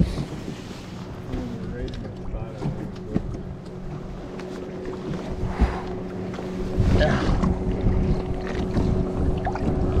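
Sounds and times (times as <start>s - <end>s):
low motor hum: 0.0s - 10.0s
wind and water rushing: 0.0s - 10.0s.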